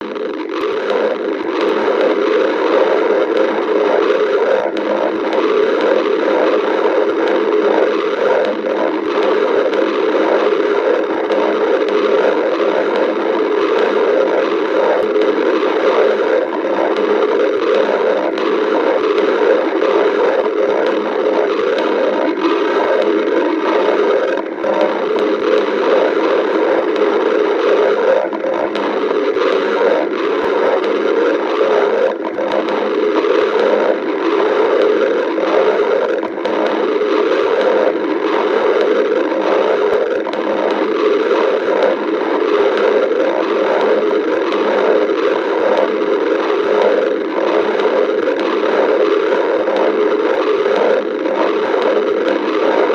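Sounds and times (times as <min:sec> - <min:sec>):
stomach growling: 0:00.0 - 0:52.9.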